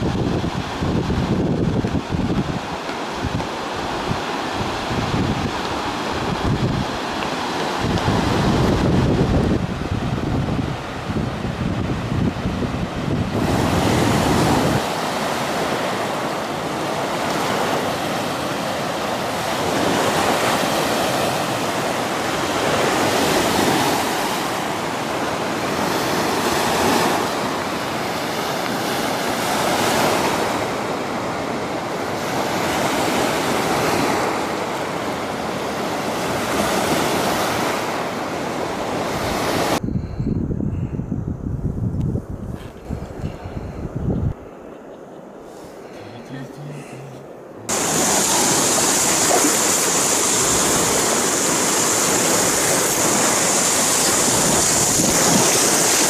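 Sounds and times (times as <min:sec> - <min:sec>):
river water rushing through rapid: 0:00.0 - 0:39.8, 0:45.9 - 0:56.0
wind buffeting microphone: 0:00.0 - 0:45.5, 0:47.5 - 0:56.0.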